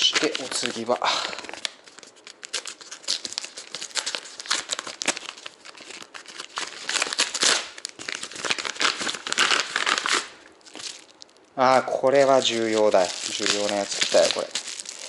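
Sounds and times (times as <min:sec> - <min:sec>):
paper envelope tearing and crumpling: 0:00.0 - 0:15.0.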